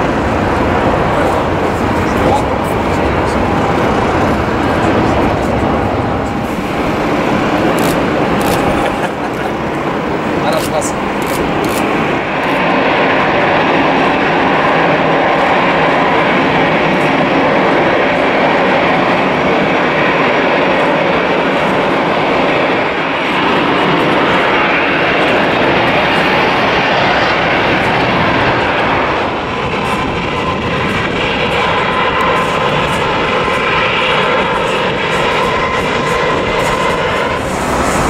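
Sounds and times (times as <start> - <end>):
jet aircraft roar: 0.0 - 38.0.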